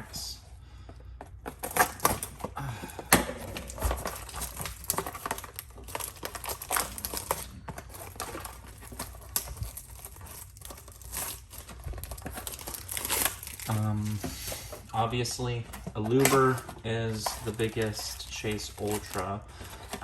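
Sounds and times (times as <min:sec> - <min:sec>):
foil packs crinkling: 0:01.3 - 0:20.0.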